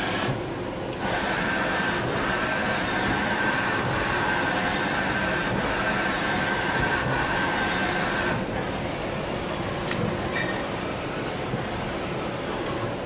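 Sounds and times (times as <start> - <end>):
machine hum and rush: 0.0 - 12.6.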